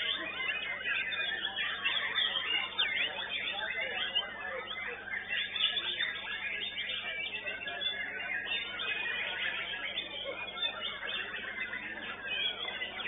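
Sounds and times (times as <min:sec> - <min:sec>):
many songbirds singing: 0:00.0 - 0:13.0.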